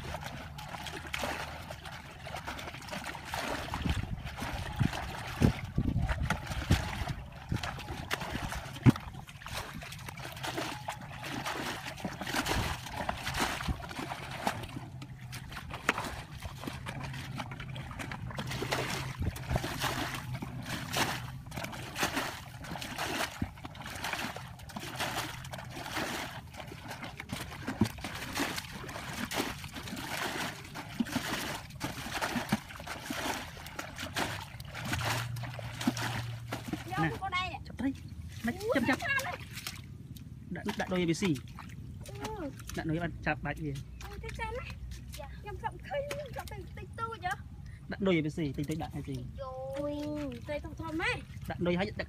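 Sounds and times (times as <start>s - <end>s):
buckets splashing muddy water: 0.0s - 52.0s.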